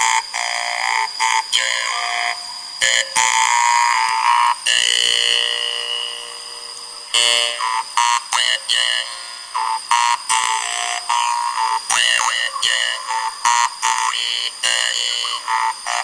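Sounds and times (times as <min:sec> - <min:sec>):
jaw harp buzzing: 0:00.0 - 0:16.0.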